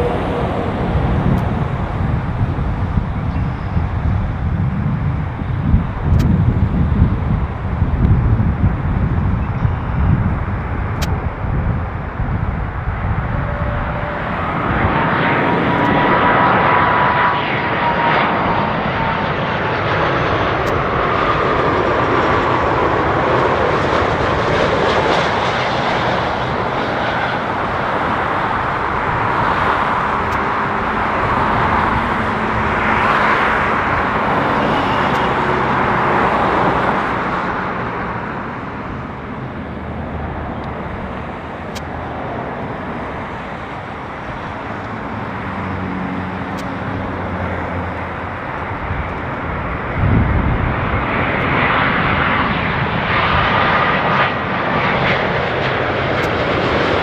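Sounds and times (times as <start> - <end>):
jet airliner roar and whine: 0.0 - 57.0.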